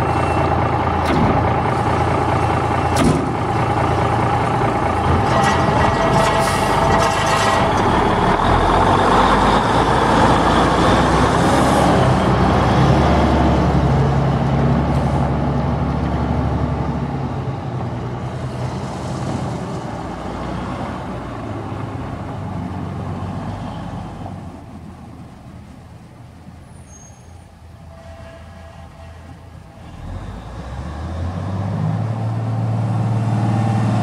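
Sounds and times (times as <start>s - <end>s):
diesel truck driving away: 0.0s - 34.0s.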